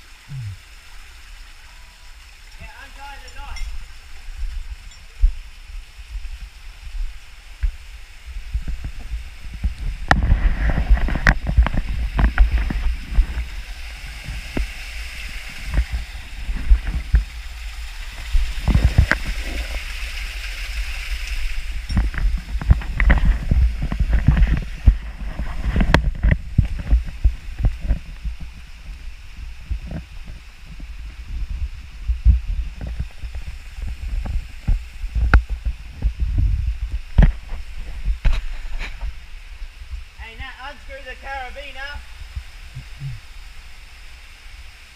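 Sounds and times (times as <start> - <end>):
creek running over rocks: 0.0 - 44.9.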